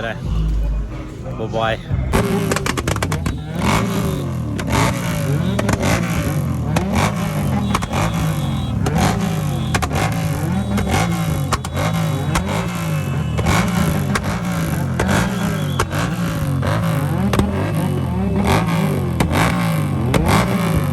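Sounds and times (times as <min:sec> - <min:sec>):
motorcycles revving: 0:00.0 - 0:20.9
exhaust cracks: 0:01.9 - 0:20.9.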